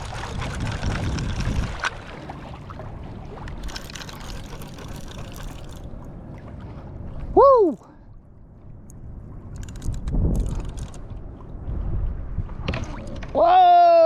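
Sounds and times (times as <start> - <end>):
water sloshing and splashing: 0.0 - 13.5.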